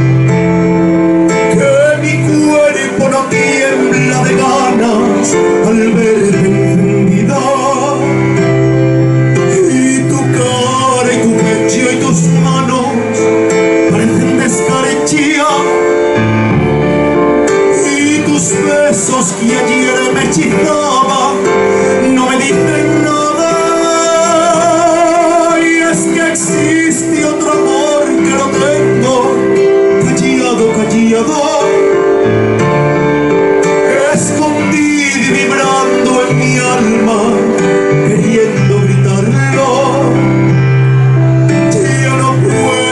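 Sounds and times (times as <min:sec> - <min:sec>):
electronic keyboard: 0:00.0 - 0:42.9
man singing into a microphone: 0:00.0 - 0:42.9.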